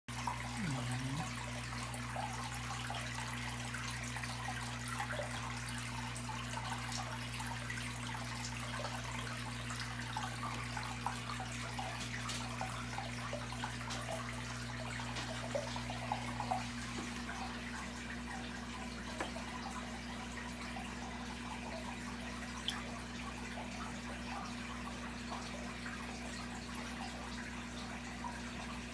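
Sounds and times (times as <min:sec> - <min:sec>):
aquarium filter humming: 0:00.1 - 0:28.9
water bubbling and trickling: 0:00.1 - 0:28.9.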